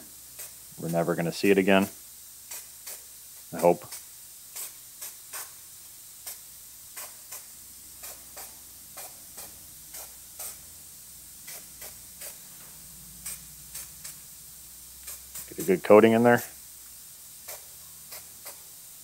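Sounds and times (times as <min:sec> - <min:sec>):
aerosol can spraying puffs: 0:00.0 - 0:19.0.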